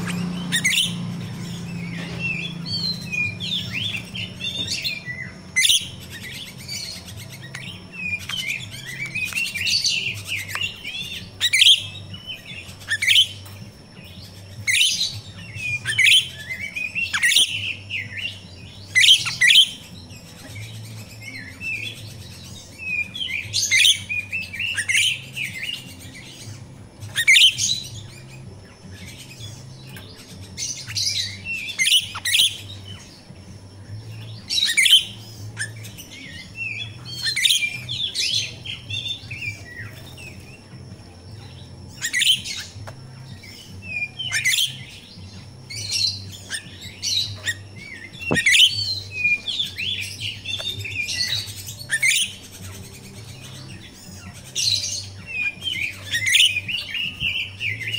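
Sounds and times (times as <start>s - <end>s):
starling chattering chirps: 0.0s - 57.9s.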